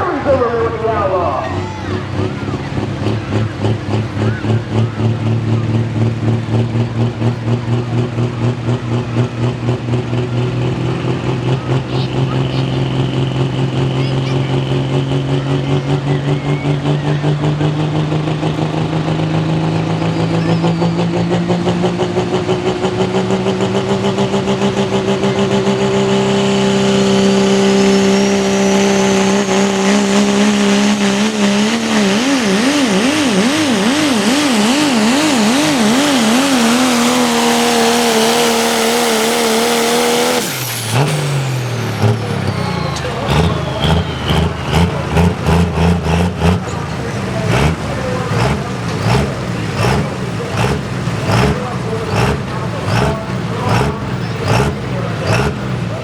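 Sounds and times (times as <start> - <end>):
diesel truck engine at full throttle: 0.0 - 56.0.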